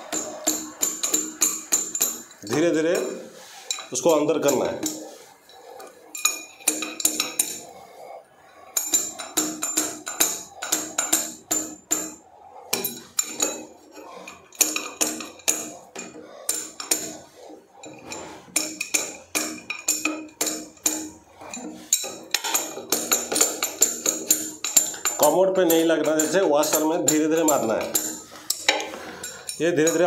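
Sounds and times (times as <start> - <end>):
spanner tapping metallic clinks: 0.0 - 3.1, 6.2 - 7.7, 8.8 - 17.2, 17.8 - 30.0.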